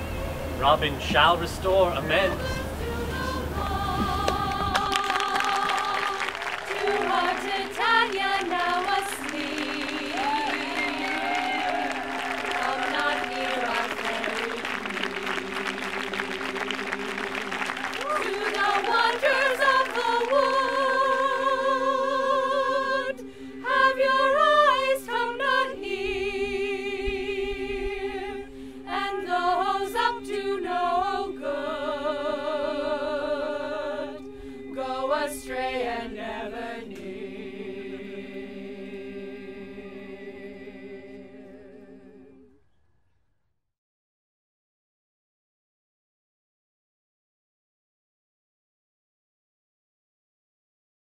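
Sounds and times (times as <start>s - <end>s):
choir singing unaccompanied: 0.0s - 42.6s.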